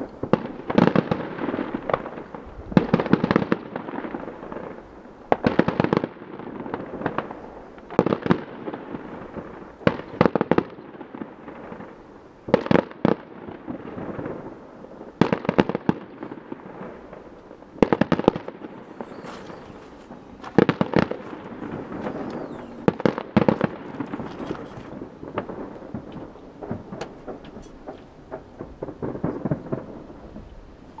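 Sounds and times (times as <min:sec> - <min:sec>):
fireworks banging: 0:00.0 - 0:31.0.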